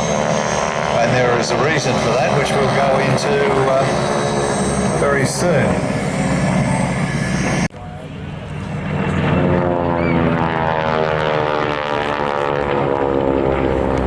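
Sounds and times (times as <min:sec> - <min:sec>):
propeller aircraft engine drone: 0:00.0 - 0:14.0.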